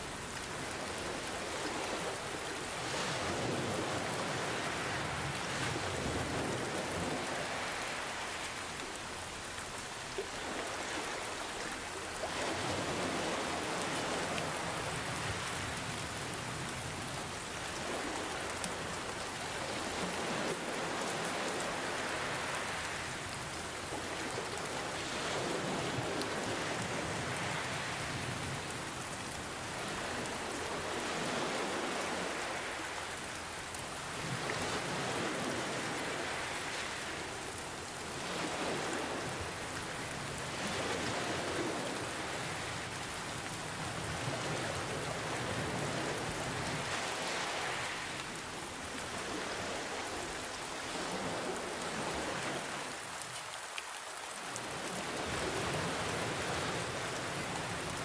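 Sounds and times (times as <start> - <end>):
ocean waves washing in: 0.0 - 58.0
rain falling: 0.0 - 58.0.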